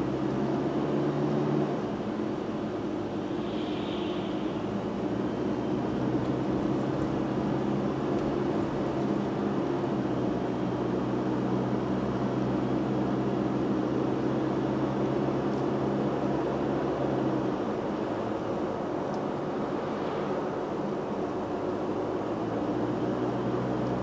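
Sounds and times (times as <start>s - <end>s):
car engine running: 0.0s - 24.0s
tyre and road noise: 0.0s - 24.0s.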